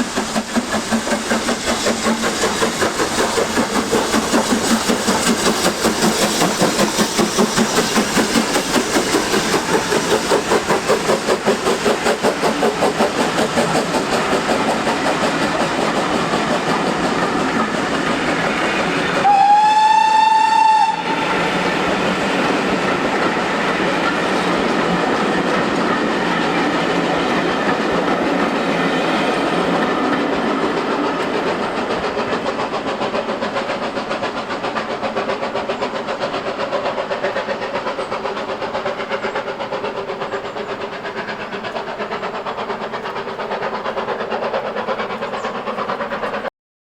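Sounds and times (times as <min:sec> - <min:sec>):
train wheels clattering on rails: 0:00.0 - 0:46.5.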